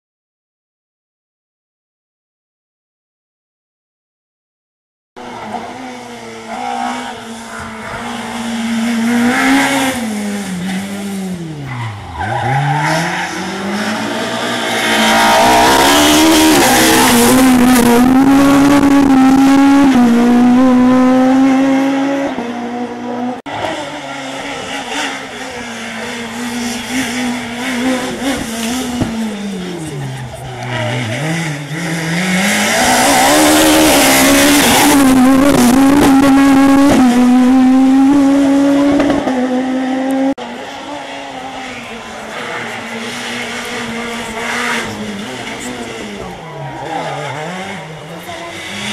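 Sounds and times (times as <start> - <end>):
rally car engines braking and accelerating: 5.2 - 48.9.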